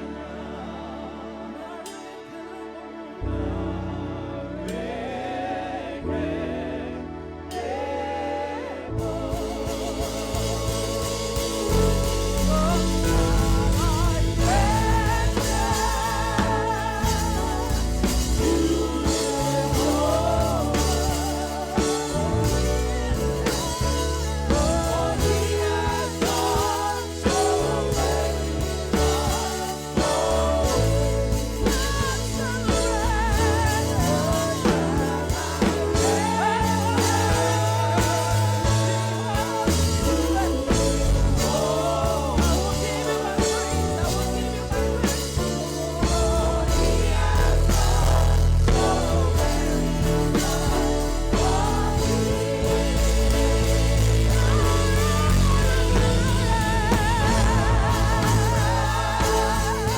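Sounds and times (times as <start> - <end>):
live worship band playing: 0.0 - 59.9
person singing with vibrato: 0.0 - 59.9.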